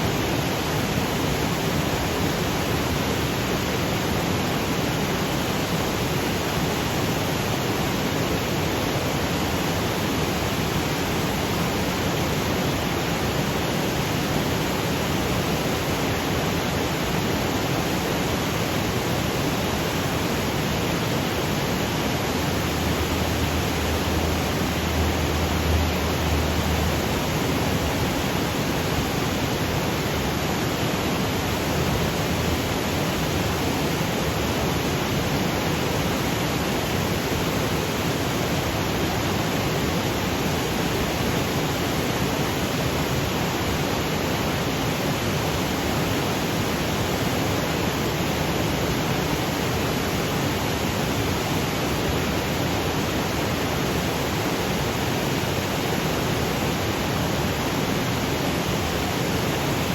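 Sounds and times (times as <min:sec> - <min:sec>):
waterfall rushing over boulders: 0:00.0 - 0:59.9.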